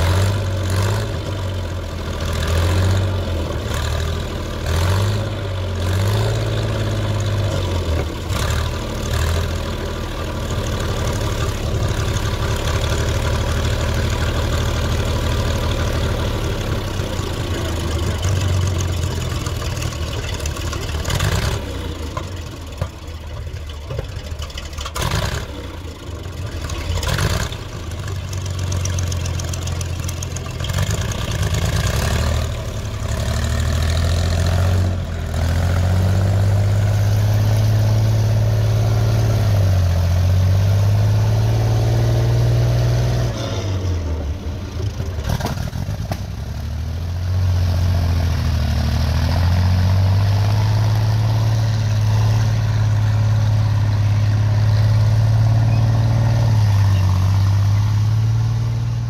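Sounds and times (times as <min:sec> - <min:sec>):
tank engine running hard: 0:00.0 - 0:59.0.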